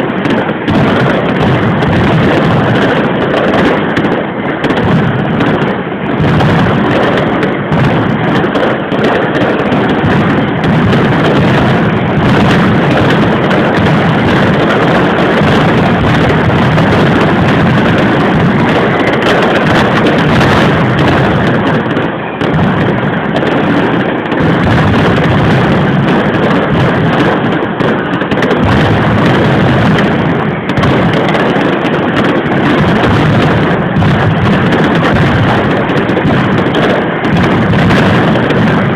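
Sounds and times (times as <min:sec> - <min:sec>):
firecrackers barrage of loud bangs: 0:00.0 - 0:38.9.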